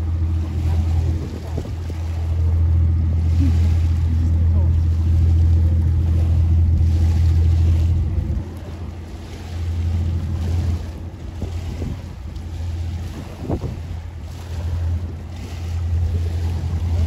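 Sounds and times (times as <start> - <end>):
wind on microphone: 0.0 - 4.7, 5.4 - 17.0
ship engines droning: 0.0 - 17.0.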